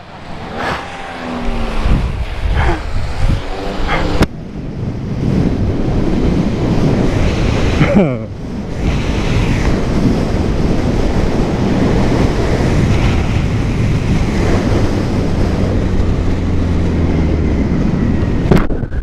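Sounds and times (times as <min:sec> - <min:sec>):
low engine drone: 0:00.0 - 0:19.0
wind rushing over microphone: 0:00.0 - 0:19.0.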